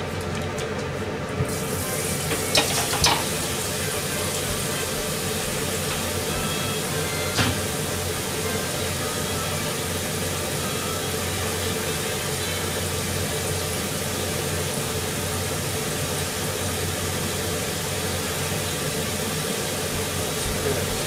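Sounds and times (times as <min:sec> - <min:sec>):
exhaust fan rushing hum: 0:00.0 - 0:21.0.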